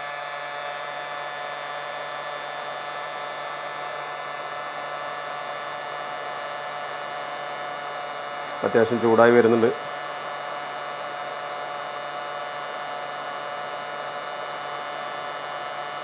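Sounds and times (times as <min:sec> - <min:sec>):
heat gun fan whine: 0:00.0 - 0:16.0.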